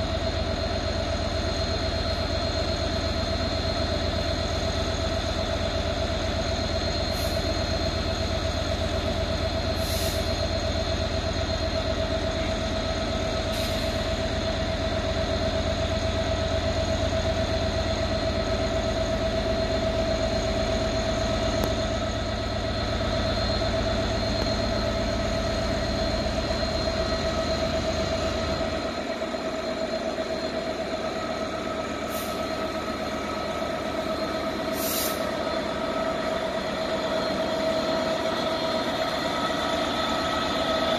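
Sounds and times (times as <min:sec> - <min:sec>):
diesel locomotive engine rumble: 0:00.0 - 0:40.9
steady high whine: 0:00.0 - 0:40.9.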